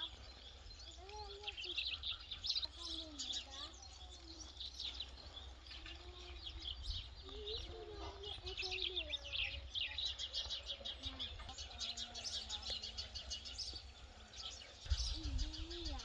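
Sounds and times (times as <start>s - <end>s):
small birds chirping and twittering: 0.0s - 16.0s.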